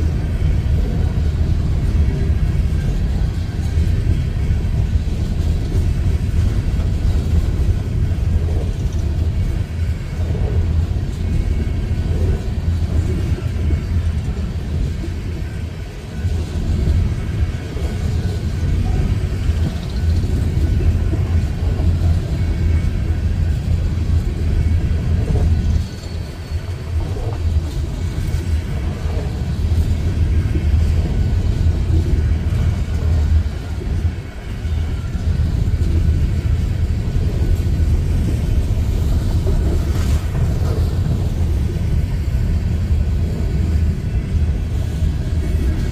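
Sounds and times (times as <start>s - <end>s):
train cars rumbling past: 0.0s - 45.9s.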